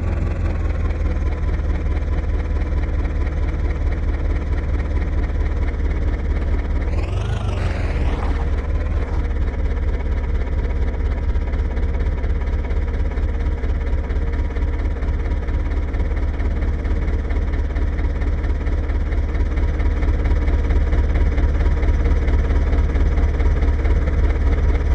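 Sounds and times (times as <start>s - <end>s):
diesel tractor engine running: 0.0s - 24.9s.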